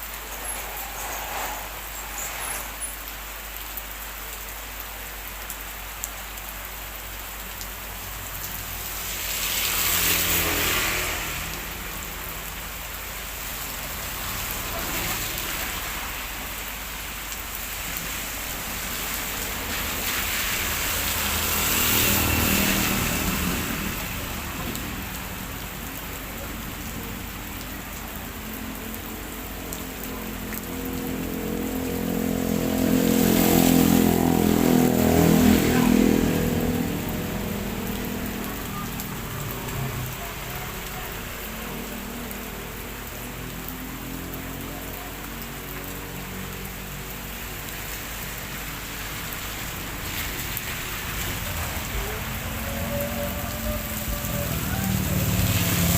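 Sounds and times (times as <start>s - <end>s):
vehicle passing: 0.0s - 4.1s, 7.9s - 55.9s
heavy rain falling: 0.0s - 55.9s
tyres hissing on wet road: 0.0s - 55.9s.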